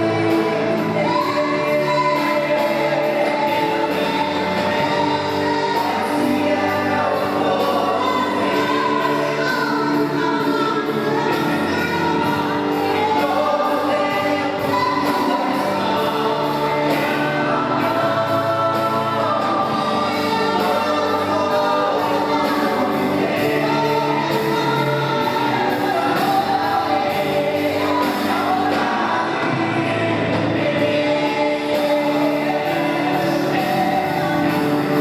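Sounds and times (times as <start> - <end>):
group singing gospel song: 0.0 - 35.0.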